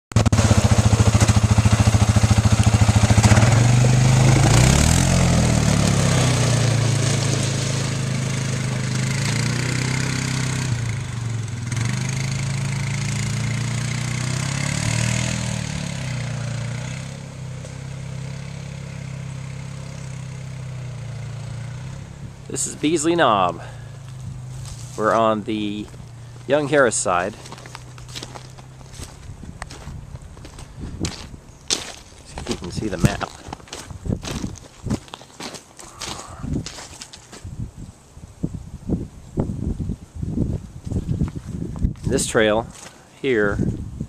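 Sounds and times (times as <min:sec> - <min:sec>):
vehicle engine idling and revving: 0:00.1 - 0:37.3.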